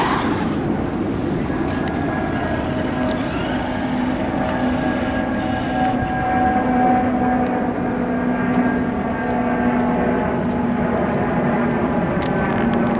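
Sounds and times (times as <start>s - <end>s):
steady mechanical hum: 0.0s - 12.9s.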